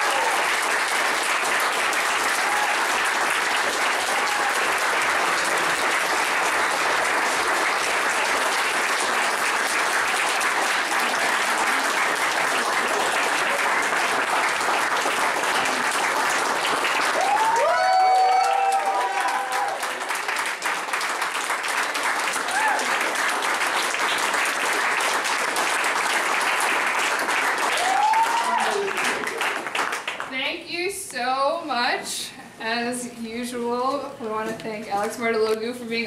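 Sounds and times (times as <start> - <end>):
audience applauding: 0.0 - 30.4.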